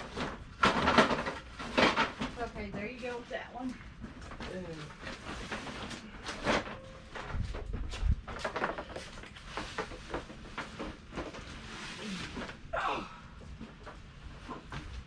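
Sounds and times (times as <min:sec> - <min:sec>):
boxes being handled: 0:00.0 - 0:12.7.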